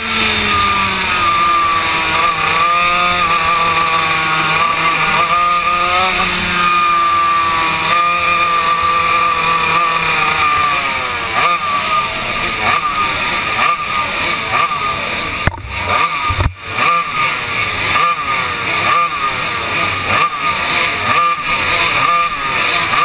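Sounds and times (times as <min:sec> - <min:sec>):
two-stroke kart engine racing: 0:00.0 - 0:23.0.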